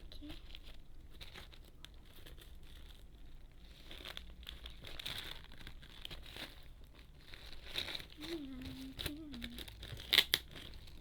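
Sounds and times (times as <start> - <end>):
packaging crinkling and rustling: 0.0 - 11.0
packaging tearing: 1.1 - 11.0.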